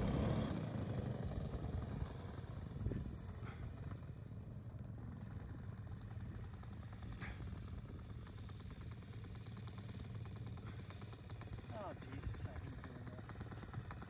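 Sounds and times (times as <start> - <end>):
model airplane engine droning: 0.0 - 14.0.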